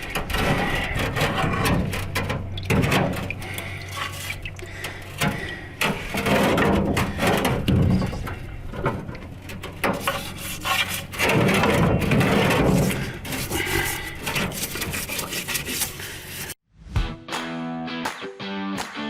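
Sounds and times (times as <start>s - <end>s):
brush scrubbing metal part: 0.0s - 16.6s.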